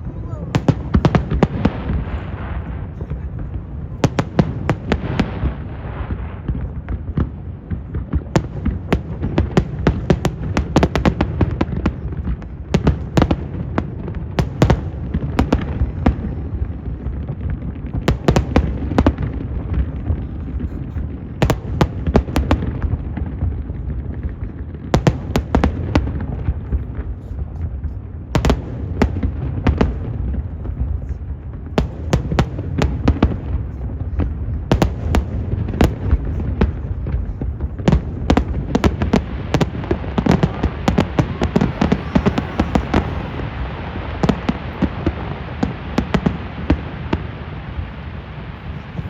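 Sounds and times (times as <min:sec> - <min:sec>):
low rumble of booms: 0:00.0 - 0:47.2
fireworks bangs: 0:00.0 - 0:49.0.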